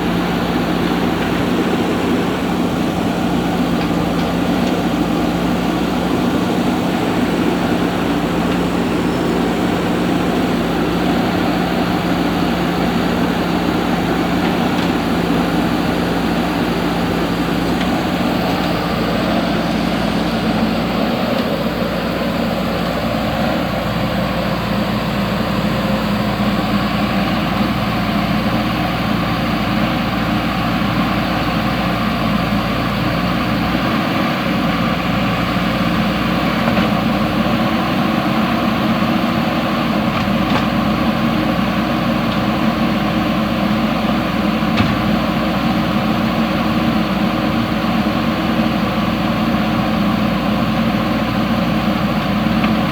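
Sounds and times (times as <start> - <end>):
diesel engine running steadily: 0.0 - 52.9.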